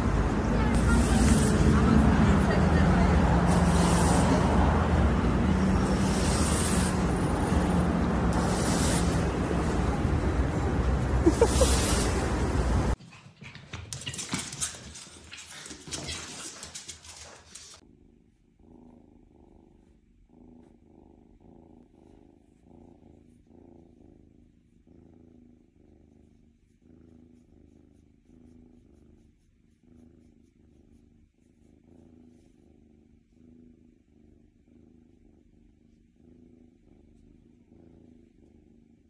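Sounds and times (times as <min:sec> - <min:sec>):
kitten purring: 0:00.0 - 0:13.0, 0:15.9 - 0:39.0.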